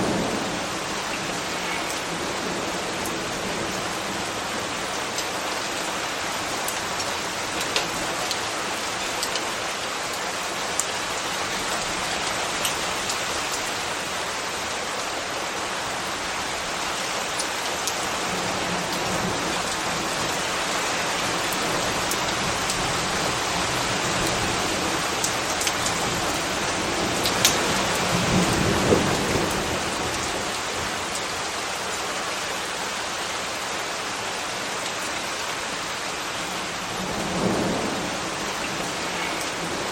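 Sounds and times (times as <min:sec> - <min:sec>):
sharp ticks of raindrops: 0:00.0 - 0:39.9
steady rain falling: 0:00.0 - 0:39.9.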